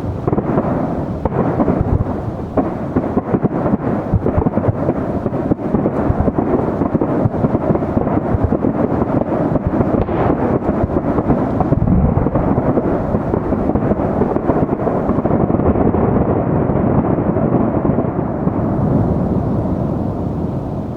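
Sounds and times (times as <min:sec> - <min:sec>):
fireworks bursting: 0:00.0 - 0:20.9
fireworks crackle: 0:00.0 - 0:20.9.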